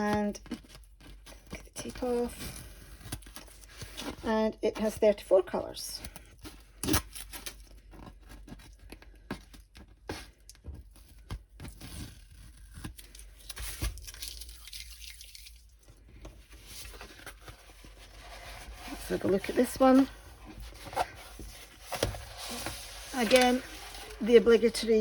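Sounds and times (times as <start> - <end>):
packaging crinkling and rustling: 0.0 - 4.3, 5.7 - 25.0.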